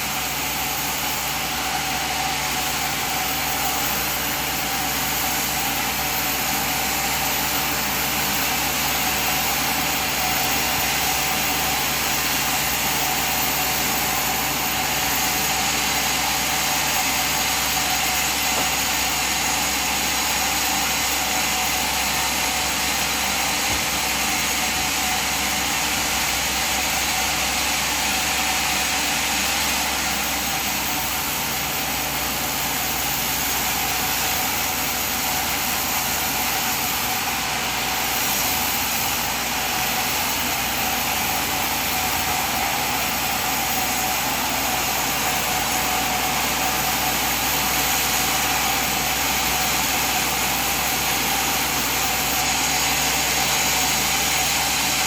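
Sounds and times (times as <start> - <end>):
sawmill machine droning: 0.0 - 55.0.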